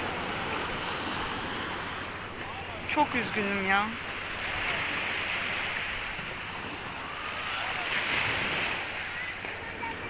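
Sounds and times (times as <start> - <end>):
sea waves breaking on shore: 0.0 - 10.0.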